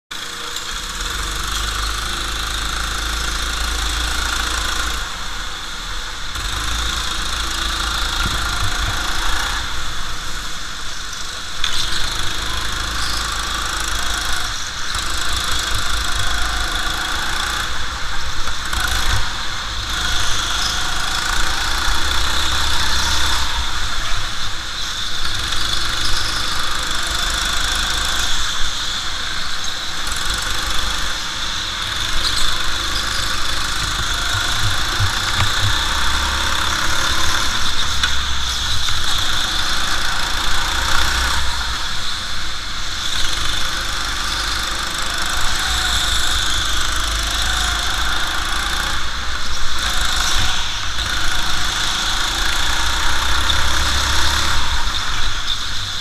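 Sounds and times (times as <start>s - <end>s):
go-kart engine running: 0.1s - 56.0s.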